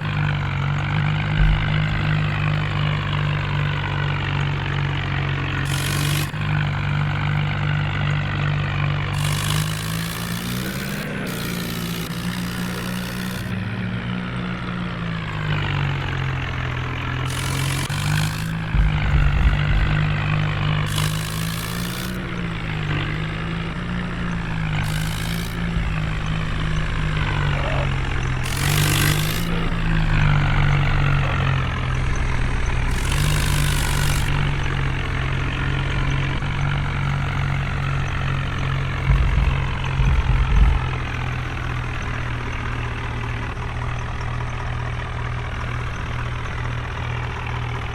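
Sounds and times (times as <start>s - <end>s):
heavy diesel engine running: 0.0s - 47.9s
low rumbles: 0.0s - 47.9s.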